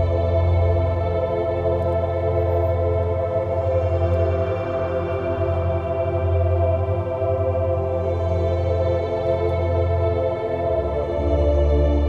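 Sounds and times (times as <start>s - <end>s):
ambient music with sustained chords: 0.0s - 12.0s.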